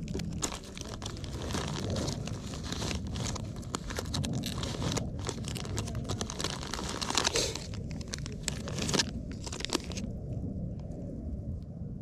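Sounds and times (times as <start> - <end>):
rummaging in fabric bag: 0.0 - 10.0
plastic packets crinkling: 0.0 - 10.1.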